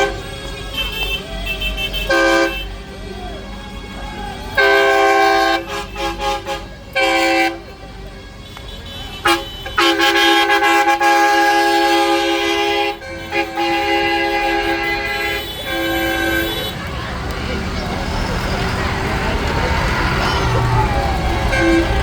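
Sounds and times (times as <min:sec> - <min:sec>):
tractor horns honking: 0:00.0 - 0:22.0.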